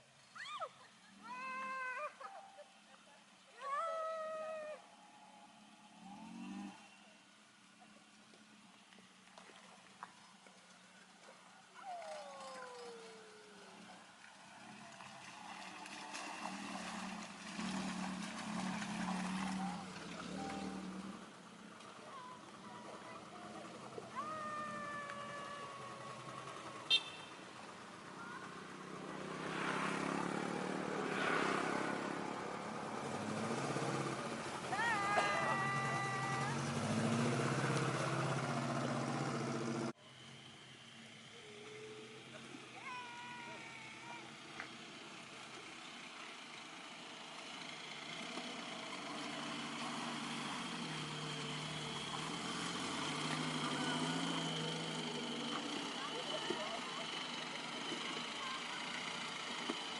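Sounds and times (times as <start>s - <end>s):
off-road vehicle engine running: 5.0s - 59.9s.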